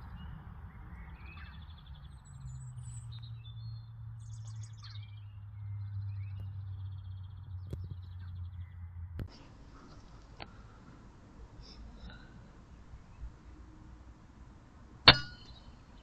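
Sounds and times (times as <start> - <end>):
songbirds singing and trilling: 0.0 - 16.0
steady low hum: 0.0 - 16.0.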